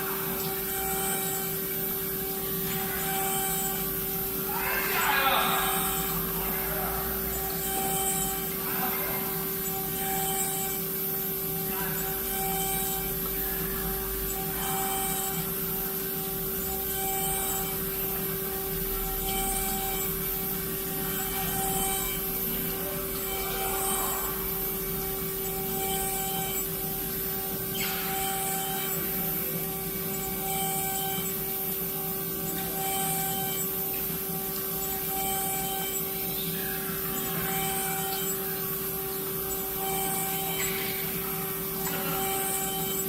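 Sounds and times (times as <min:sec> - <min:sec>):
cutter grinding workpiece: 0:00.0 - 0:36.2, 0:36.9 - 0:43.0
milling machine spindle hum: 0:00.0 - 0:43.0.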